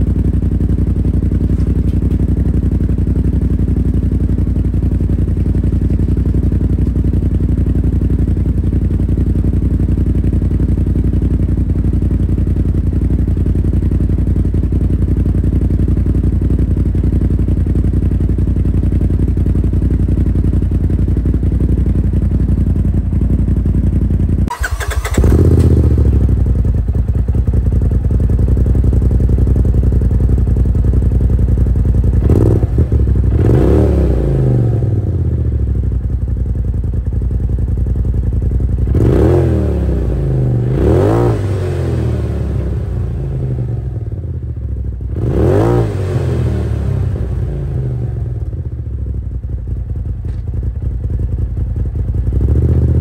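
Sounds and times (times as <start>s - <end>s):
engine idling and revving: 0.0s - 53.0s.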